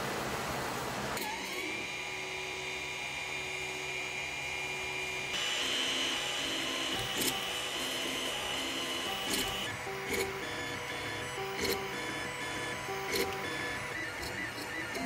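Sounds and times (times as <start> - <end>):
stepper motors whining: 1.2 - 15.0.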